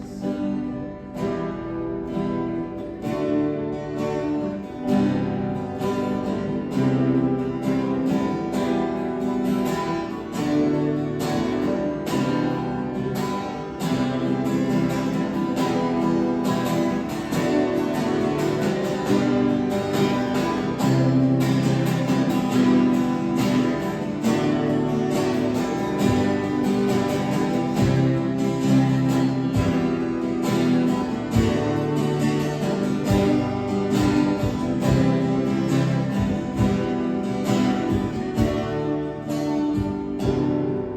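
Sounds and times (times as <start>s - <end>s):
strummed acoustic guitar music: 0.0s - 40.9s.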